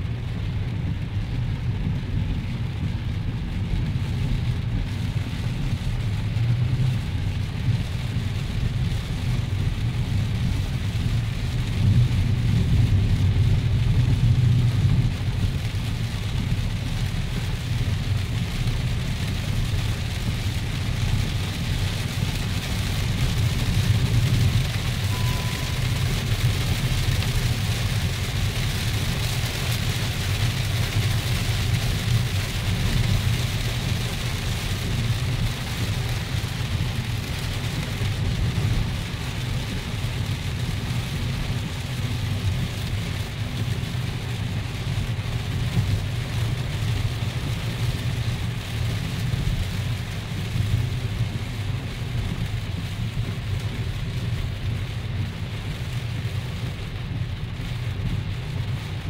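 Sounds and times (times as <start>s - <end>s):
car engine rumble: 0.0s - 59.0s
heavy rain on car roof: 0.0s - 59.0s
tyres on wet road: 0.0s - 59.0s.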